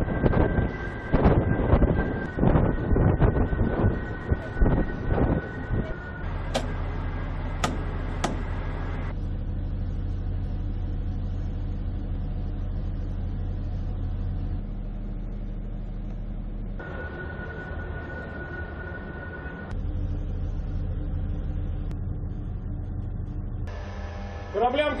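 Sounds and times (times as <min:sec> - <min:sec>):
ship engines humming: 0:00.0 - 0:25.0.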